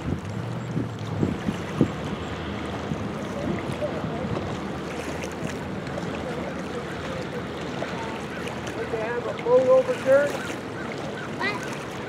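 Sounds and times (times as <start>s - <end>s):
lake water: 0.0s - 12.0s
wind: 0.0s - 12.0s.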